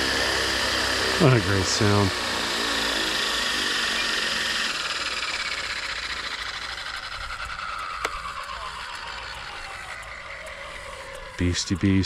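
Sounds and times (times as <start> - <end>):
helicopter motor winding down: 0.0 - 12.0.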